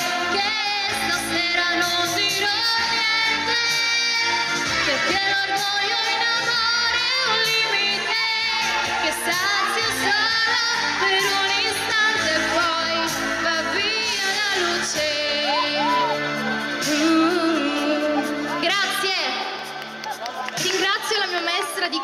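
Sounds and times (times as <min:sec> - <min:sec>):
woman singing pop ballad: 0:00.0 - 0:19.6
backing track: 0:00.0 - 0:22.0.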